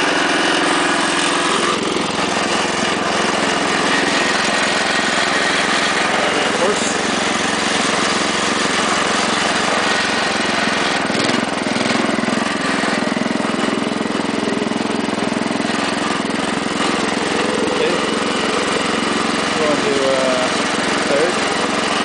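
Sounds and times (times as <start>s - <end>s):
small tractor engine running: 0.0s - 22.0s.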